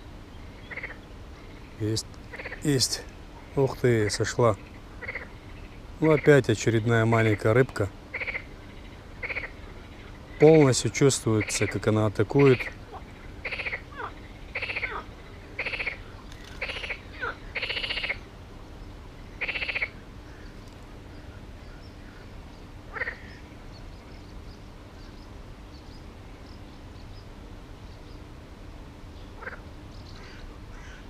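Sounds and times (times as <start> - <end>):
frogs croaking: 0.0 - 28.3, 29.2 - 31.0.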